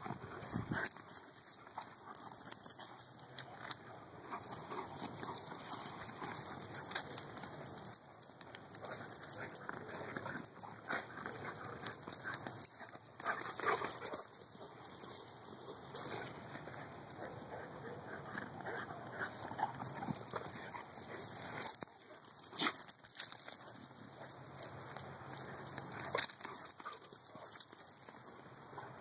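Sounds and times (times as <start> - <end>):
dogs playing: 0.0 - 29.0.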